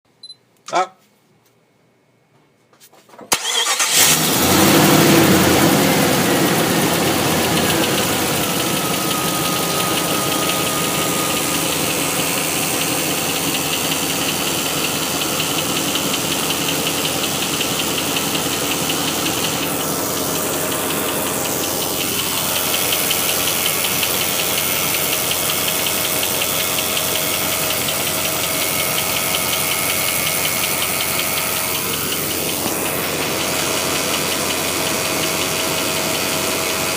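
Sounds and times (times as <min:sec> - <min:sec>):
car engine starting and idling: 0:03.3 - 0:36.9.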